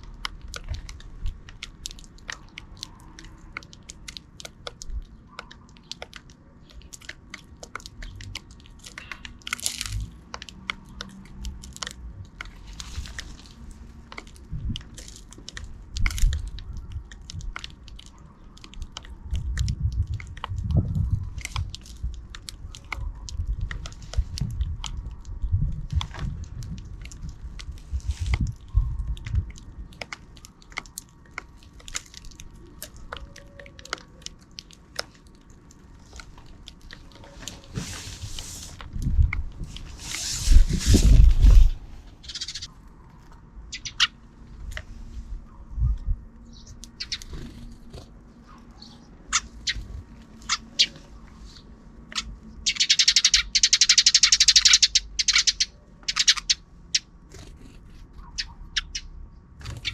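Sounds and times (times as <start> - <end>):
sparrows pecking at seed: 0.0 - 59.9.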